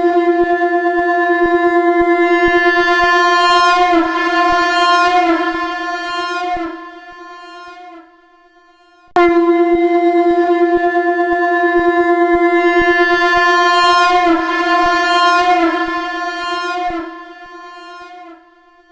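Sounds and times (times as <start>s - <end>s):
conch shell blown: 0.1s - 18.9s.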